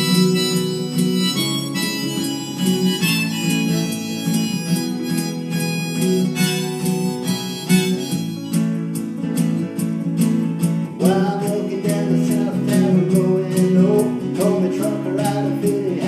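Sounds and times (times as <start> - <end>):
harmonica melody: 0.0 - 15.9
strummed acoustic guitar: 0.0 - 16.0.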